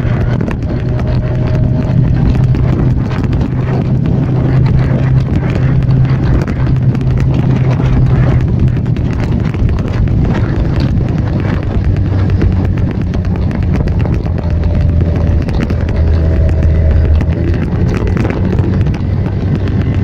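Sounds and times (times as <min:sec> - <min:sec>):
scooter engine running: 0:00.0 - 0:20.0
wind on microphone: 0:00.0 - 0:20.0.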